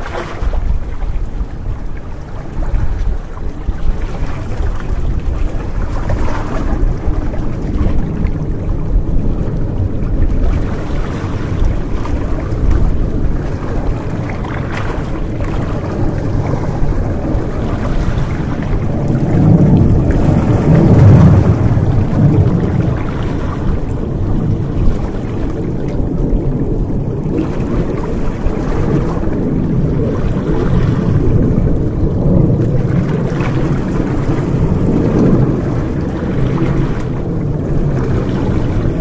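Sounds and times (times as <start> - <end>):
low rumble: 0.0 - 39.0
sea waves lapping against rocks: 0.0 - 39.0.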